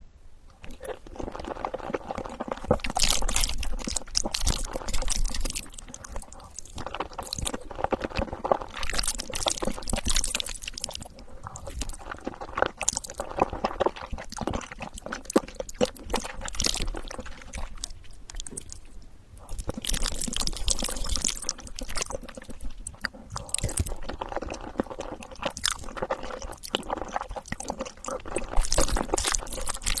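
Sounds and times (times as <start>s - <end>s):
chewing and biting: 0.5s - 30.0s.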